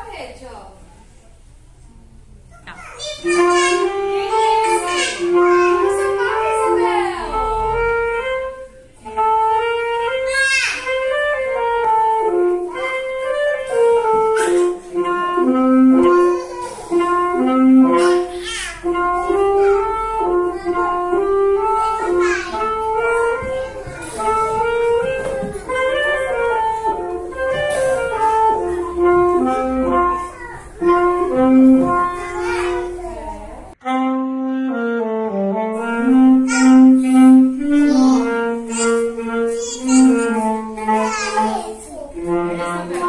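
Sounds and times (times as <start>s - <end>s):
saxophone melody: 3.2s - 43.0s.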